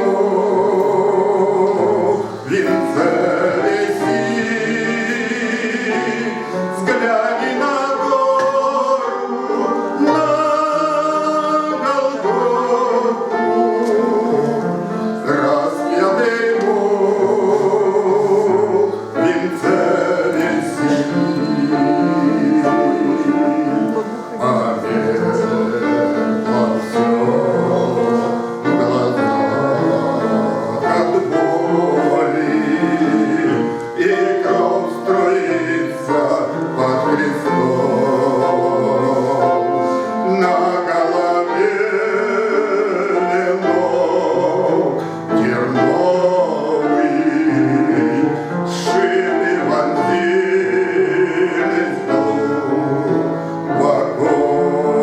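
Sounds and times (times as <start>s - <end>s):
instrumental accompaniment: 0.0s - 55.0s
man singing a hymn: 0.0s - 55.0s.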